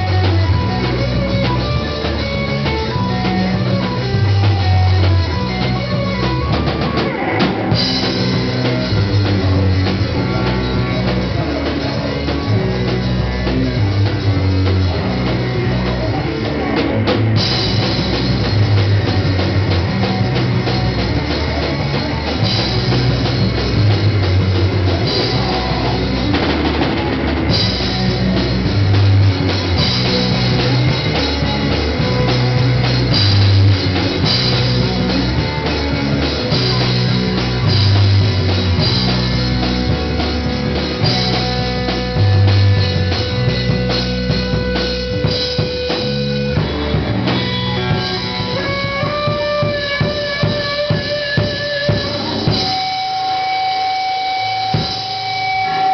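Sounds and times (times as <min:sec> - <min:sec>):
heavy kick drum beat: 0:00.0 - 0:53.4
electric guitars: 0:00.0 - 0:55.9
live rock band playing: 0:00.0 - 0:55.9.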